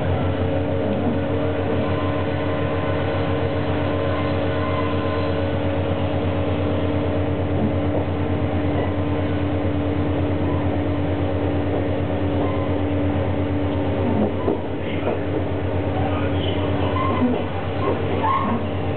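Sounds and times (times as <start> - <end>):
diesel engine drone: 0.0 - 18.9
train running noise: 0.0 - 18.9.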